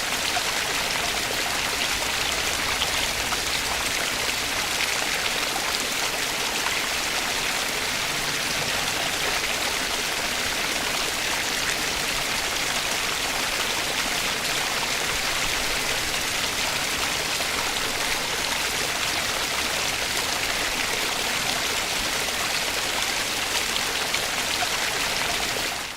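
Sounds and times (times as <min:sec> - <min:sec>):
stream water splashing over rocks: 0:00.0 - 0:25.9.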